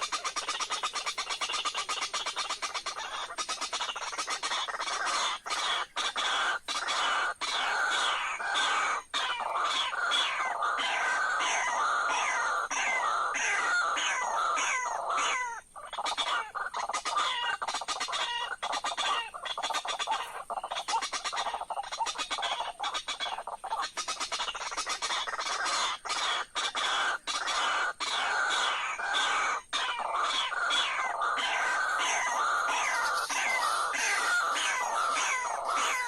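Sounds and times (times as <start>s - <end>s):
bird harsh croaking calls: 0.0s - 36.0s.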